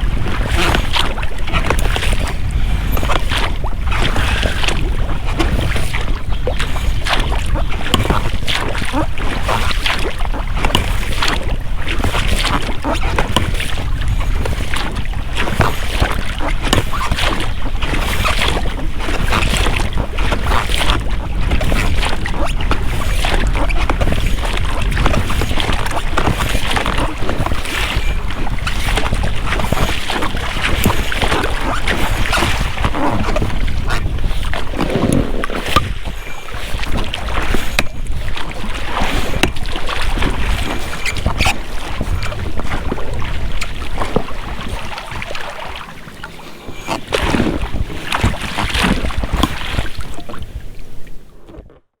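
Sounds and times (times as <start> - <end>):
rubber rowlocks creaking: 0.0 - 50.4
oars splashing in water: 0.0 - 51.8.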